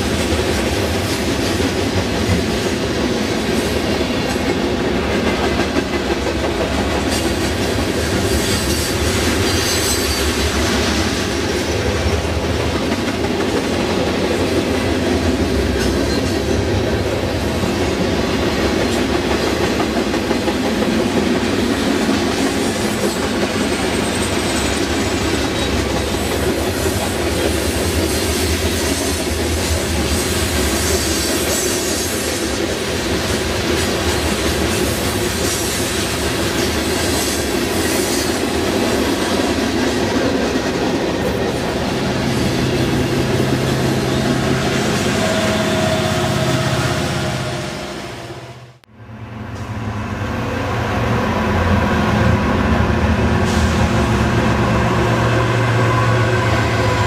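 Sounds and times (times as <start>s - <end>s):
train wheels rumbling and clattering: 0.0s - 48.2s, 48.8s - 57.0s.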